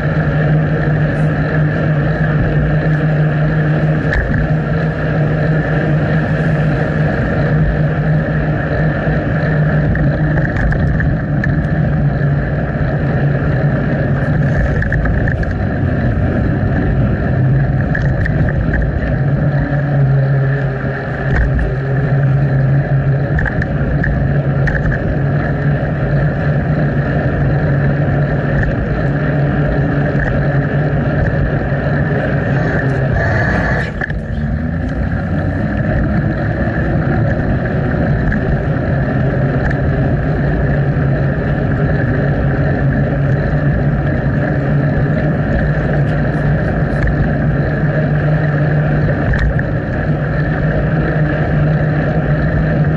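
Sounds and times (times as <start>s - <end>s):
bicycle rolling noise: 0.0s - 52.9s
wind rush on microphone: 0.0s - 52.9s.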